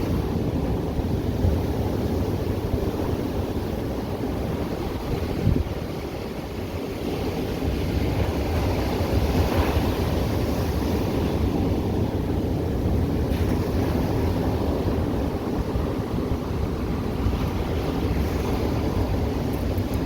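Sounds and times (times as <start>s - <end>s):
surf washing onto beach: 0.0s - 20.0s
wind rumbling on microphone: 0.0s - 20.0s.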